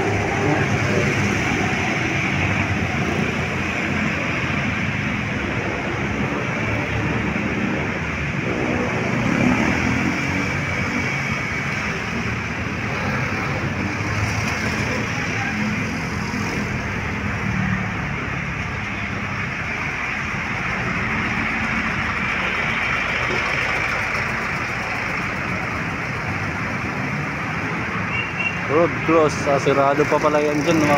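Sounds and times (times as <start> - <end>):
engines running: 0.0 - 28.1
vehicles passing: 0.0 - 30.9.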